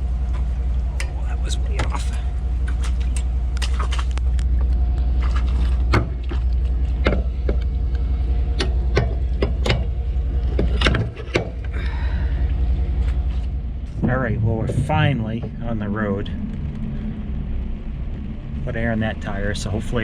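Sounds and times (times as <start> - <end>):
sharp clanks and rattles: 0.0 - 18.4
pickup truck engine drone: 0.0 - 20.0.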